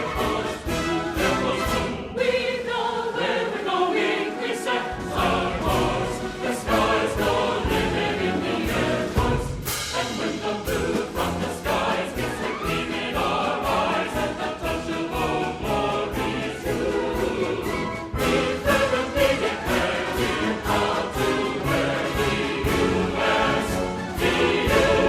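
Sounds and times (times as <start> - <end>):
choir singing with orchestra: 0.0 - 25.0.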